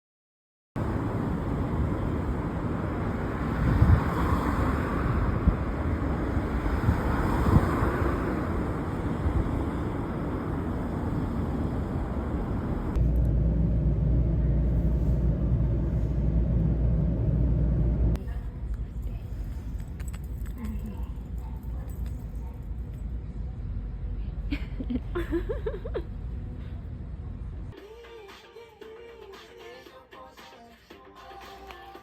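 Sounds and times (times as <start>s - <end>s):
vehicle rumble: 0.8s - 27.8s.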